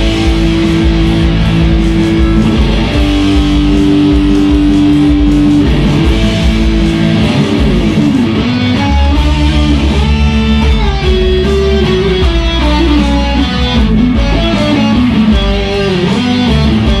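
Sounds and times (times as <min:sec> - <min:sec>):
electric guitars playing slow melody: 0:00.0 - 0:17.0.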